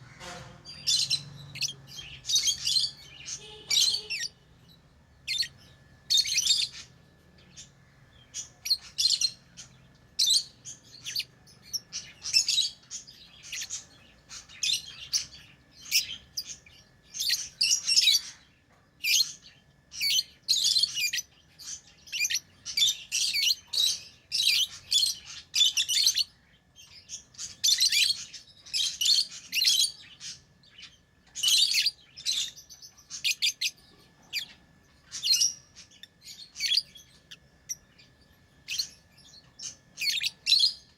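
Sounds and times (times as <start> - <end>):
birds chirping shrilly: 0.0 - 40.9.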